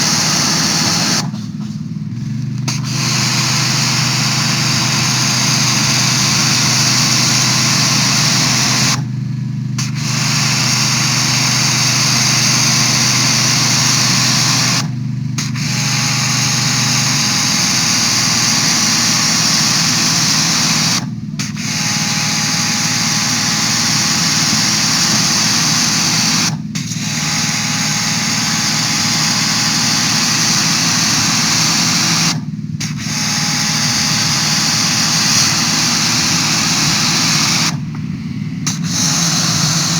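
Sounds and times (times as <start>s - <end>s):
pressure washer motor and pump: 0.0s - 39.9s
pressure washer water jet hissing: 0.0s - 39.9s.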